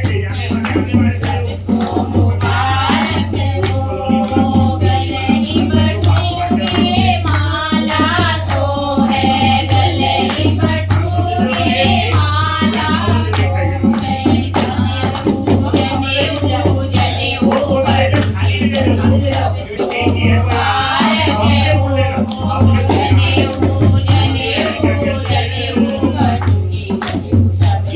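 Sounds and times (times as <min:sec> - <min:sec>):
folk song singing: 0:00.0 - 0:27.9
hand-drum beat: 0:00.0 - 0:27.9.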